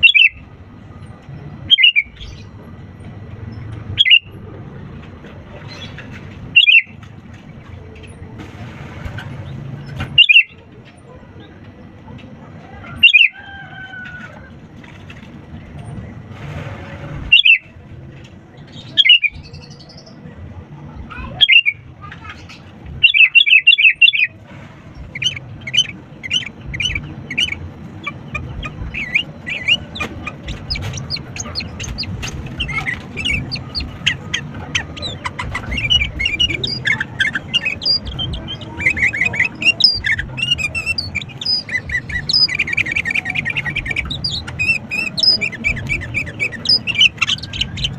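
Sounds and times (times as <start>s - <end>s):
bird chirping and twittering: 0.0s - 4.5s, 5.5s - 8.3s, 9.1s - 14.2s, 17.2s - 17.8s, 18.5s - 47.9s
low background noise: 0.0s - 47.9s.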